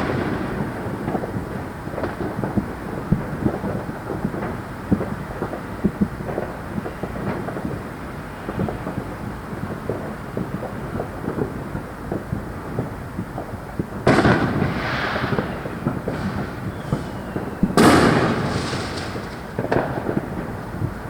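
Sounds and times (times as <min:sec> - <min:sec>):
firework bang: 0:00.0 - 0:07.8, 0:09.8 - 0:21.0
distant pops and crackles: 0:00.0 - 0:21.0
firework bursts with rolling rumble: 0:00.0 - 0:21.0.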